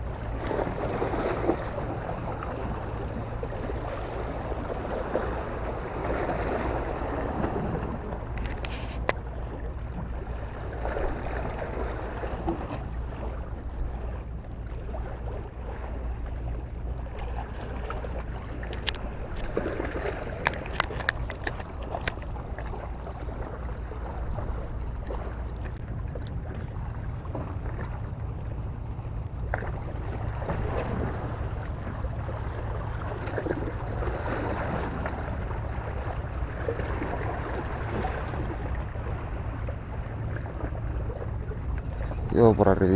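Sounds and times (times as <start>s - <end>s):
water lapping against rocks: 0.0s - 42.9s.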